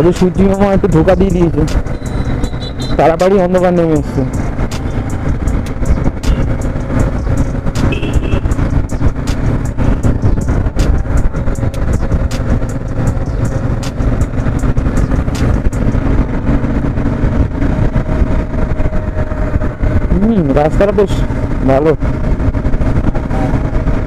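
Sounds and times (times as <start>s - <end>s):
motorcycle engine running: 0.0s - 24.0s
road noise: 0.0s - 24.0s.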